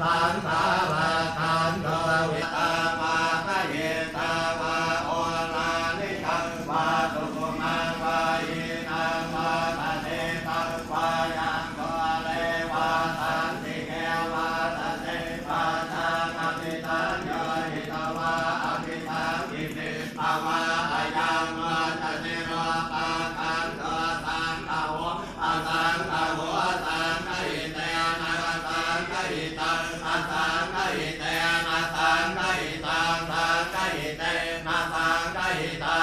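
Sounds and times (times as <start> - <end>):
voices chanting: 0.0 - 36.0.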